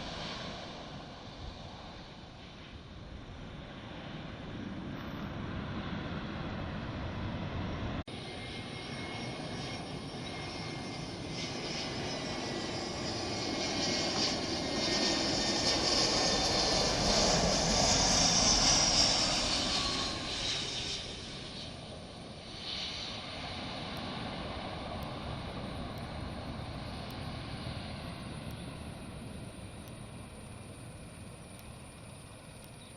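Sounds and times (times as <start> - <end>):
airliner flying overhead: 0.0 - 32.9.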